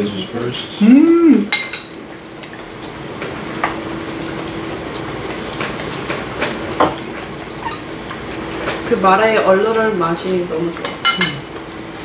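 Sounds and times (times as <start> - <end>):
broth boiling in a pot: 0.0 - 12.0.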